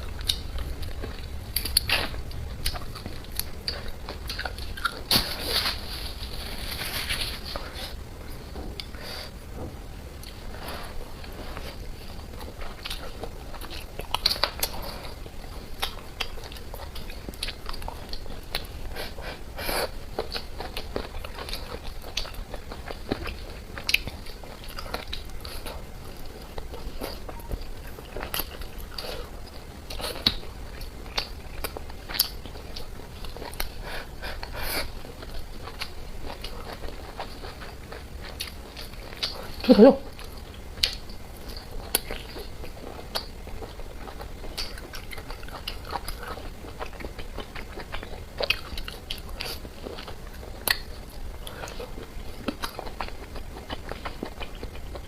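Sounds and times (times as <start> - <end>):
food crunching: 0.0 - 9.0, 10.2 - 55.0
biting and chewing food: 0.0 - 55.0.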